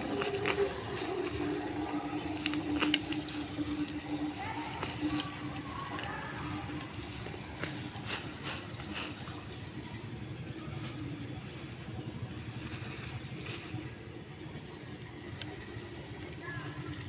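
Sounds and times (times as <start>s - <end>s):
plants rustling: 0.0s - 17.0s
steady low rumble: 0.0s - 17.0s
stems clicking: 0.0s - 17.0s.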